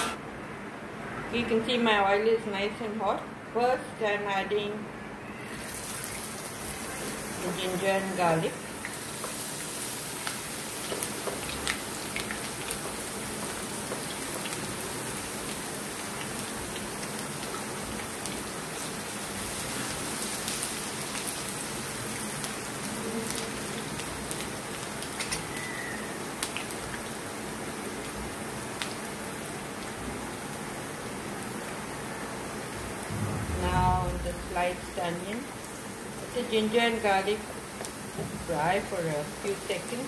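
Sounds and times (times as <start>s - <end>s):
oil sizzling in a wok: 5.5s - 33.0s, 34.6s - 40.0s.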